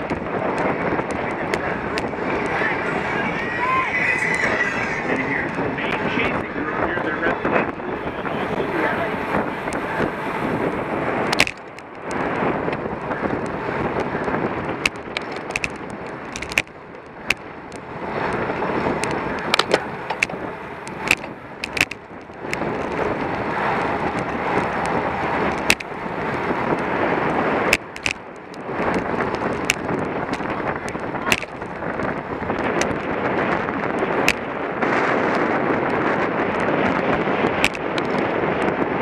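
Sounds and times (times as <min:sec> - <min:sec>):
bike clicks and rattles: 0:00.0 - 0:02.9, 0:07.6 - 0:39.0
bike tyre and air rush: 0:00.0 - 0:39.0.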